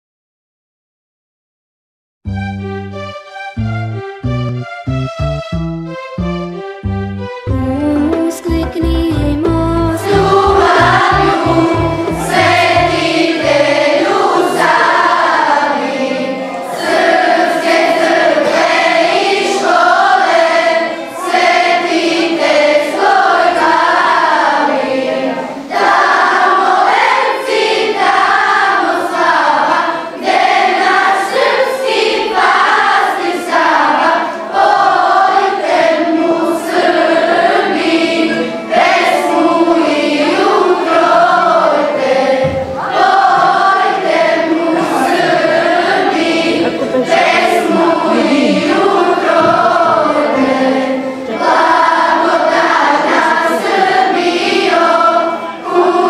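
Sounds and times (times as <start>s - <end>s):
children's choir singing: 7.5s - 56.0s.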